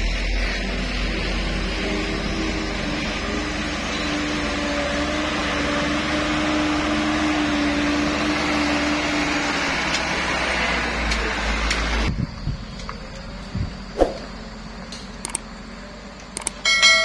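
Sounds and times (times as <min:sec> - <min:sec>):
diesel truck engine under load: 0:00.0 - 0:16.6.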